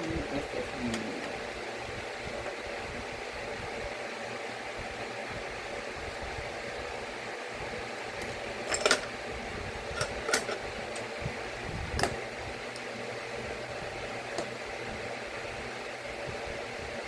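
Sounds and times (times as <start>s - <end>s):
fan hum: 0.0s - 17.0s.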